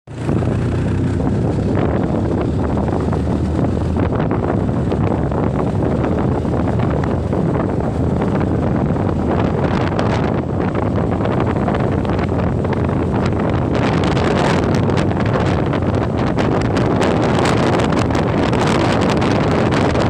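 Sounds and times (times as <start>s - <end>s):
motorbike road and engine noise: 0.1s - 20.0s
wind buffeting microphone: 0.1s - 20.0s.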